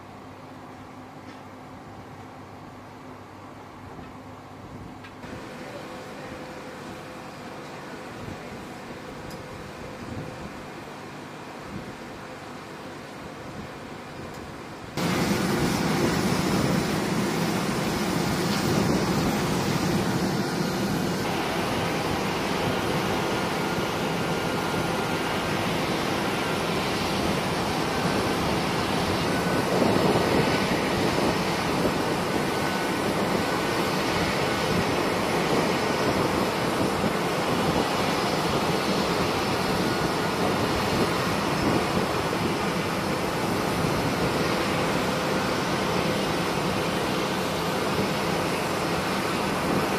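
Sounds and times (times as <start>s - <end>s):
jet engines running: 4.7s - 49.9s.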